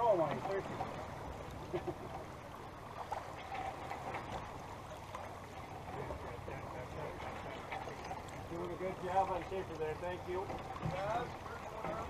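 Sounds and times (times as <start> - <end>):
water rushing along hull: 0.0 - 12.0.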